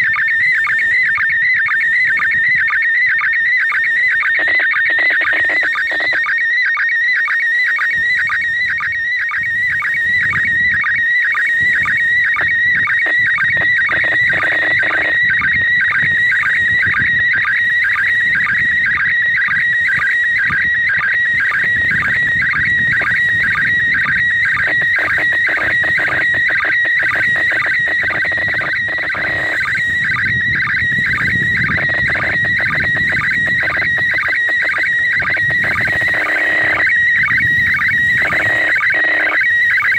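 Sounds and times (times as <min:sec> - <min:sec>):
high warbling radio tone: 0:00.0 - 0:39.9.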